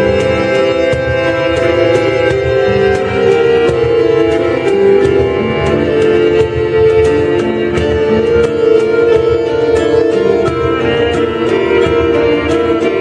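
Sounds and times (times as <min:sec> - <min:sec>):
bowed string melody: 0:00.0 - 0:13.0
plucked strings: 0:00.0 - 0:13.0.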